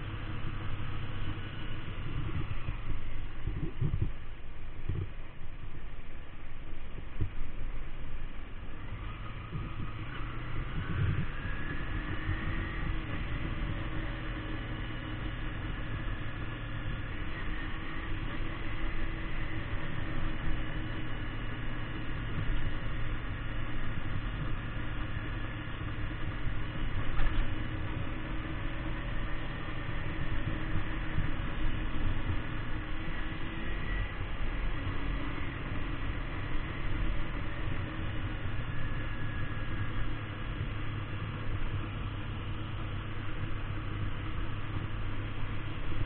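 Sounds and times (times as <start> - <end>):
motorcycle engine accelerating: 0.0 - 5.1, 8.8 - 46.0
low rushing noise: 0.0 - 46.0.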